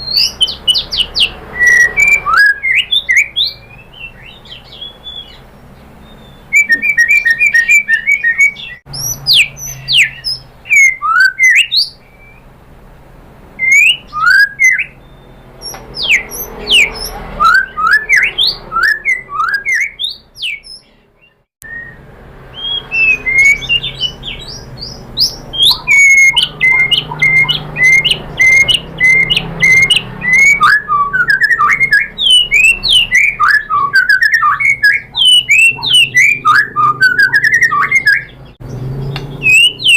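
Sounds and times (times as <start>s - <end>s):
bird singing varied song: 0.0s - 12.6s, 13.6s - 39.9s.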